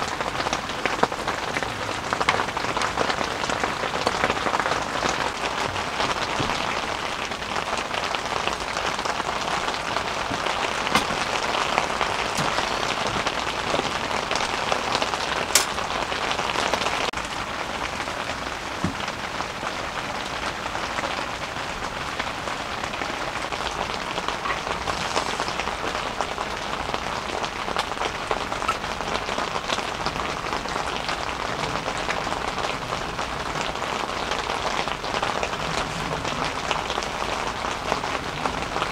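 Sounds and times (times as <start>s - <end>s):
heavy rain on tent fabric: 0.0s - 38.9s.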